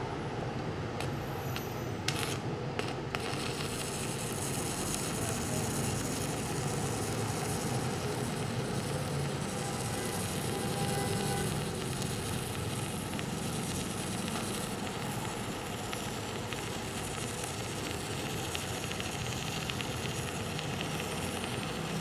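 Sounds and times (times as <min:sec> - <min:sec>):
welding arc crackling: 0:00.9 - 0:22.0.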